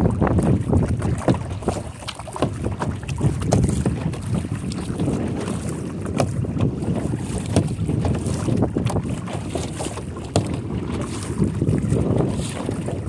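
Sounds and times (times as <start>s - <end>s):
paddle strokes in water: 0.0s - 13.0s
wind rumbling on microphone: 0.0s - 13.0s.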